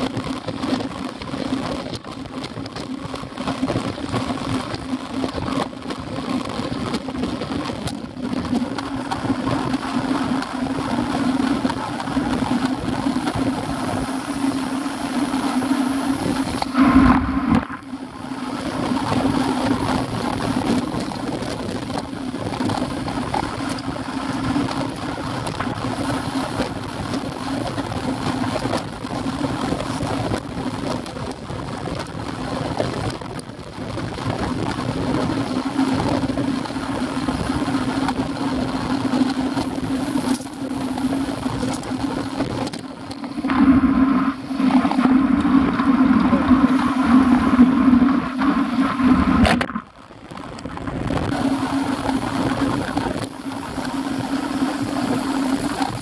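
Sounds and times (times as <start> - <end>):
wind and tyre rumble: 0.0 - 56.0.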